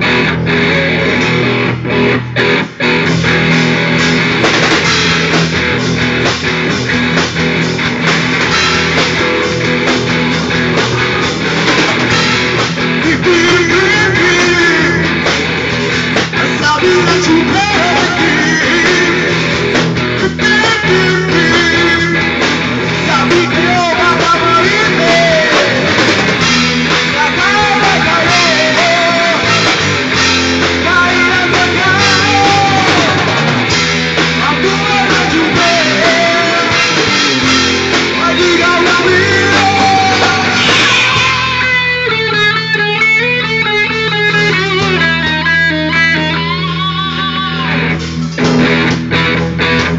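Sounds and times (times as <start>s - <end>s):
guitar playing alone: 0.0s - 49.9s
rock music: 0.0s - 49.9s.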